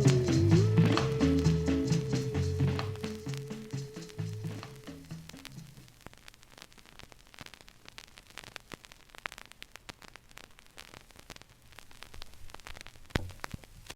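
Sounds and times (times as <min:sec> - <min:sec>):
crackling static: 0:00.0 - 0:13.9
faint hiss: 0:00.0 - 0:13.9.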